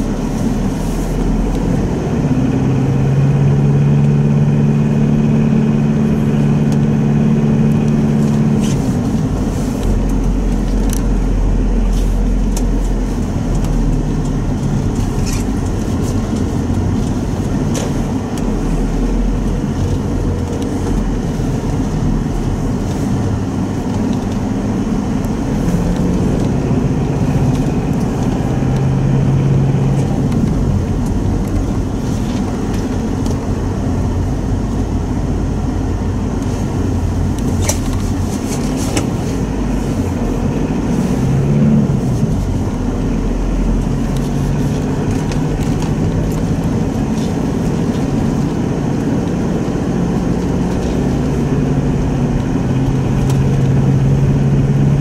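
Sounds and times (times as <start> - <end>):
car engine driving on snow: 0.0 - 55.0.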